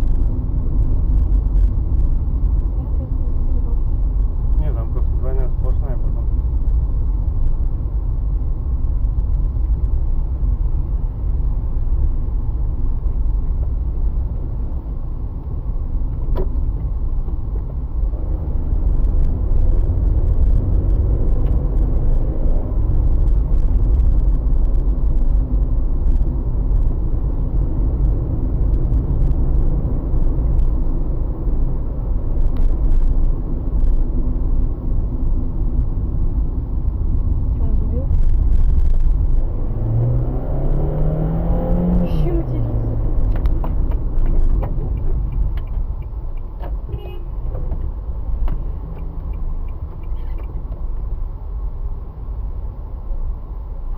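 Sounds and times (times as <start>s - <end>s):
car engine and tyre rumble: 0.0s - 53.9s.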